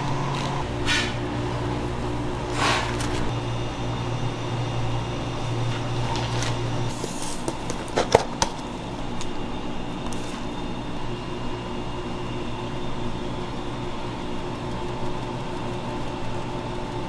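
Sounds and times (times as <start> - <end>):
kitchen hum: 0.0 - 17.0.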